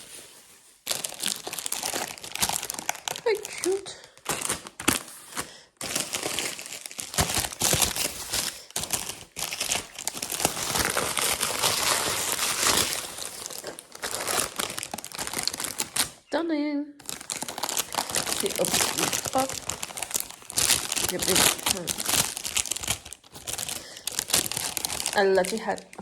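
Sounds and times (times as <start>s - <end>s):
packaging wrap crinkling: 0.0s - 16.3s, 17.0s - 26.0s.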